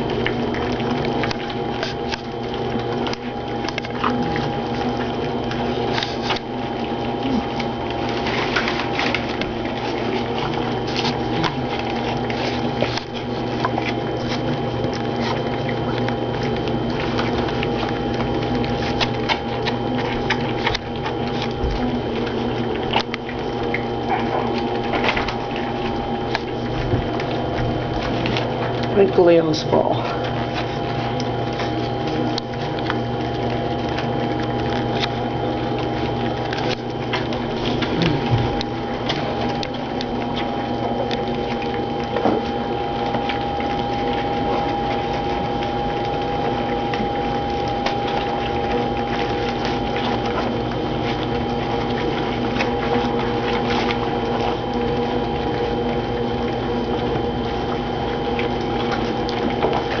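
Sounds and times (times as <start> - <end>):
puppies lapping food: 0.0 - 60.0
steady background hum: 0.0 - 60.0.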